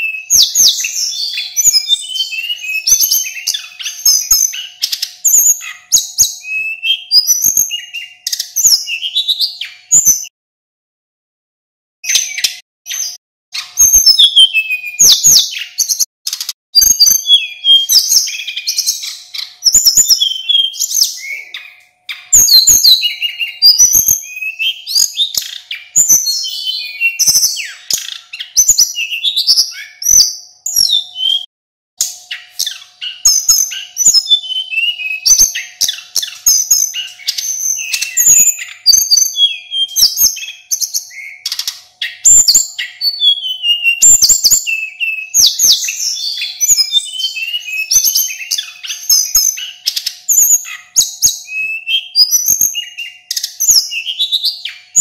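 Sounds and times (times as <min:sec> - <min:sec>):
bird singing whistled phrases: 0:00.0 - 0:10.3, 0:12.0 - 0:31.5, 0:32.3 - 0:55.0.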